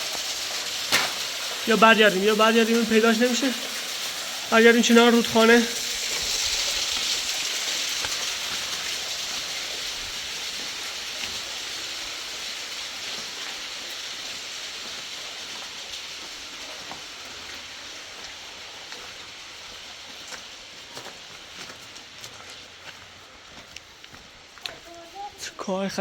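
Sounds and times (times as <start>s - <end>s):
water hissing: 0.0s - 23.5s.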